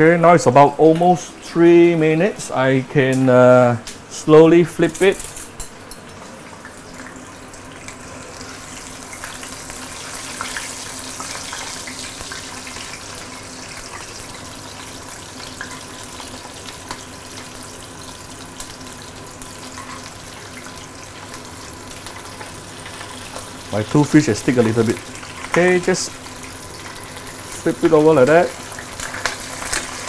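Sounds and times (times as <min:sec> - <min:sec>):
hot oil sizzling: 0:03.8 - 0:30.0.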